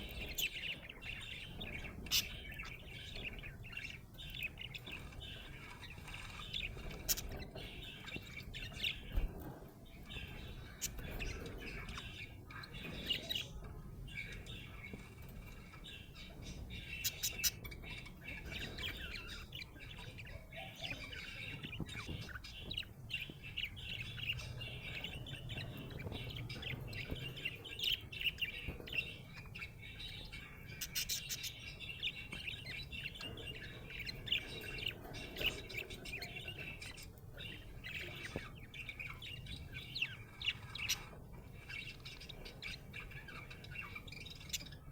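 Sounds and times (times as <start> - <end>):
budgerigar chirping and chattering: 0.0 - 44.9.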